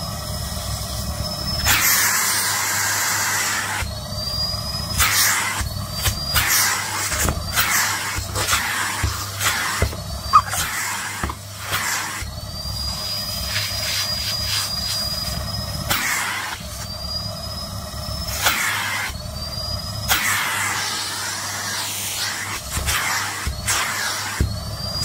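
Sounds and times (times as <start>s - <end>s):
high whine rising in pitch: 0.0s - 25.0s
vacuum cleaner running: 0.0s - 25.0s.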